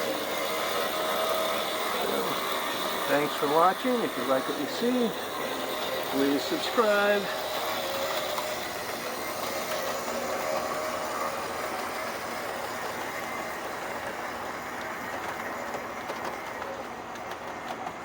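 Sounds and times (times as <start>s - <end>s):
motor whine: 0.0s - 17.3s
model train wheels rattling on rails: 0.0s - 18.0s.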